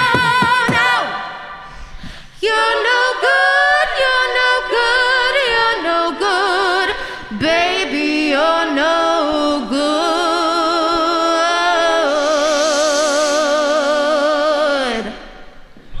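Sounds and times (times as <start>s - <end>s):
a cappella choir holding chord: 0.0s - 15.6s.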